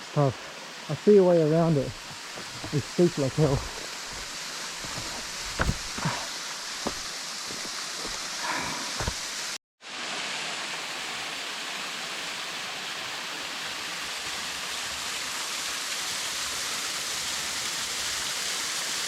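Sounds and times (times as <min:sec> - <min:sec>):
water rushing in small waterfall: 0:00.0 - 0:19.0.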